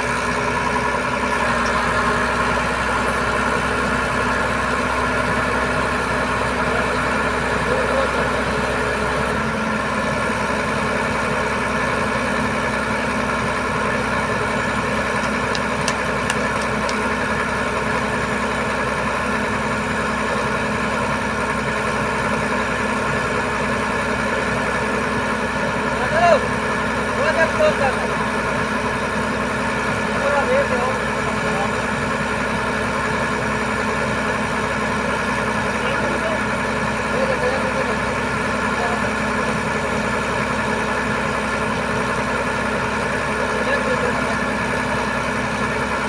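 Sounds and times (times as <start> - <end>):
diesel truck engine running: 0.0 - 46.0.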